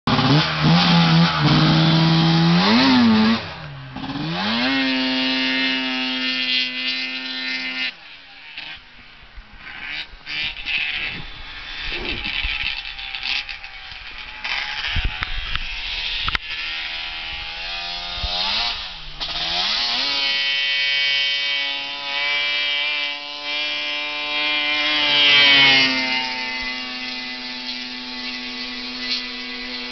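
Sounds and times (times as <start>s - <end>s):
snowmobile engine revving: 0.1s - 29.9s.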